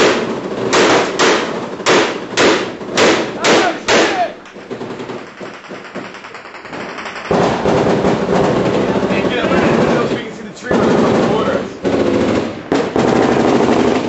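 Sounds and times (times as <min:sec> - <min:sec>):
gunshots with echo: 0:00.0 - 0:14.0
loud continuous din: 0:00.0 - 0:14.0.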